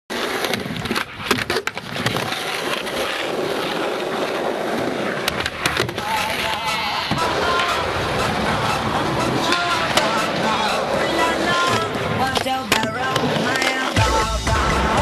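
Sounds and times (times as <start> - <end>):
skateboard wheels rolling on concrete: 0.1 - 15.0.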